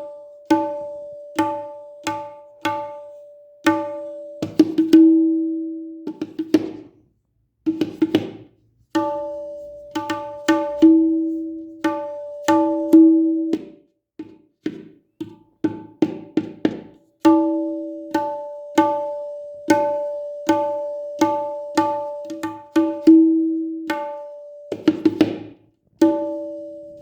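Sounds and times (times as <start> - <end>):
tabla strokes: 0.0 - 27.0.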